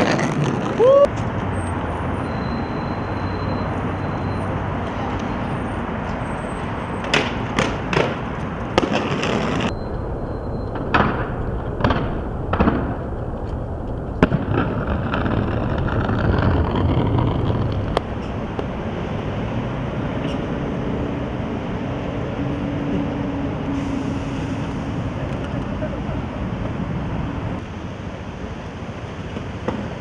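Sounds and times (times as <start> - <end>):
skate wheels rolling on concrete: 0.0 - 1.9, 4.7 - 9.7, 10.8 - 23.7, 24.4 - 30.0.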